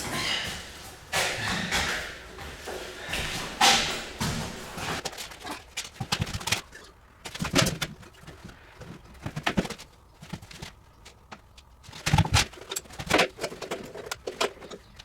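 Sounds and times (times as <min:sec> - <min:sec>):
parts and tools clattering: 0:00.0 - 0:15.0.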